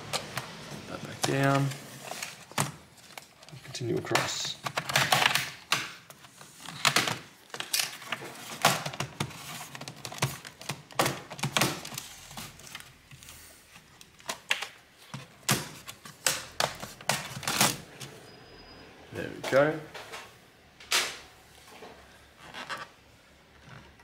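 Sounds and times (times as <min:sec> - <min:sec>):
plastic handling noise: 0:00.0 - 0:18.2, 0:20.9 - 0:24.0.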